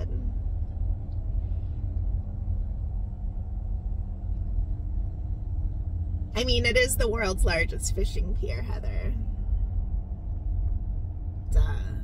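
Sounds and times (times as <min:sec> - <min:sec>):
engine rumble inside car cabin: 0:00.0 - 0:12.0.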